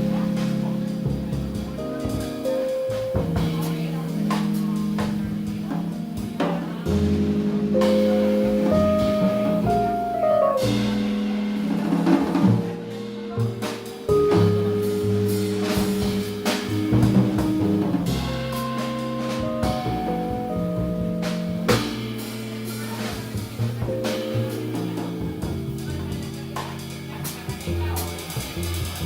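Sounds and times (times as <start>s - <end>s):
drum kit playing: 0.0s - 29.0s
live jazz ensemble: 0.0s - 29.0s
piano: 0.0s - 29.0s.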